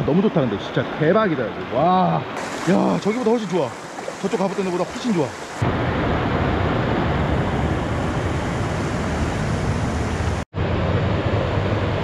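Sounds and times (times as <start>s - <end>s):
mountain stream rushing: 0.0s - 10.4s.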